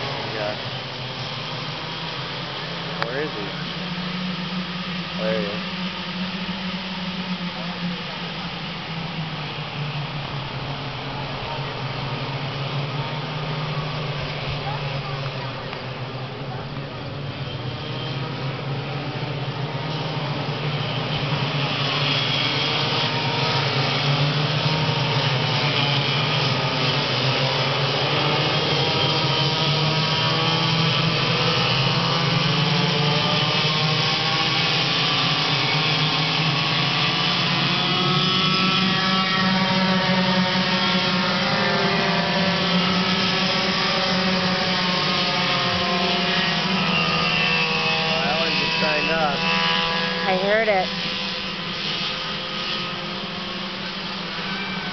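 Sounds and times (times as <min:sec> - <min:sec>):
go-kart engines at high revs: 0:00.0 - 0:54.9.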